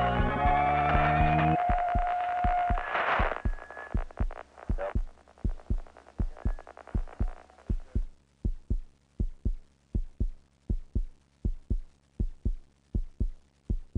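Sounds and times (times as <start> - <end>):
heartbeat thumps: 0.0 - 13.9.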